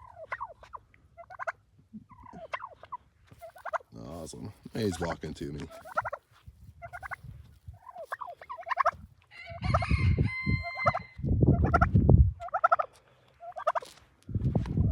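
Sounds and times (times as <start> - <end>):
poultry calling: 0.0 - 13.9.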